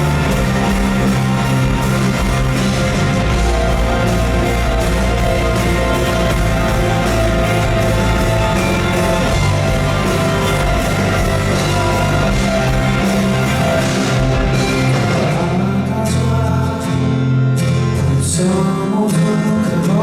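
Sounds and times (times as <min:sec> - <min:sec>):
live band playing instrumental music: 0:00.0 - 0:20.0.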